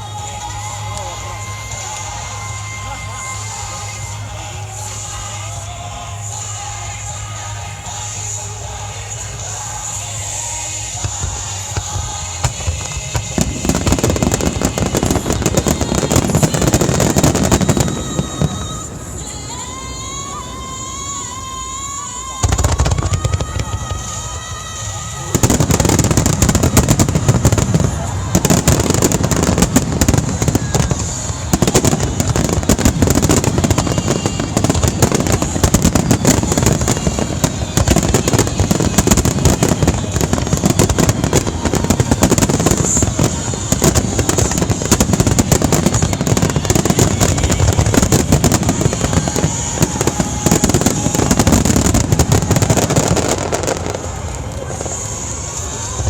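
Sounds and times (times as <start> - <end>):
fireworks booming and crackling: 0.0 - 56.0.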